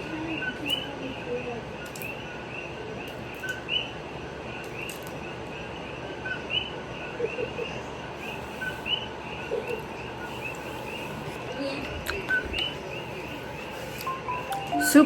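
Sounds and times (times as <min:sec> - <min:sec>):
high repeated chirping calls: 0:00.0 - 0:11.5, 0:12.2 - 0:15.0.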